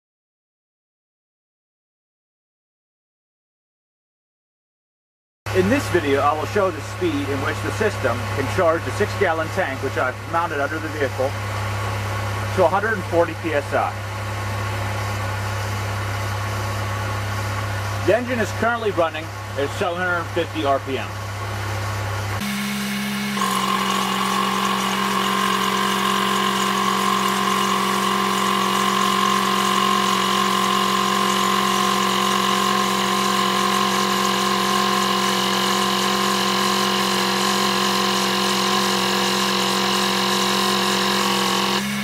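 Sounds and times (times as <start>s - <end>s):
air compressor high whine: 5.5s - 42.0s.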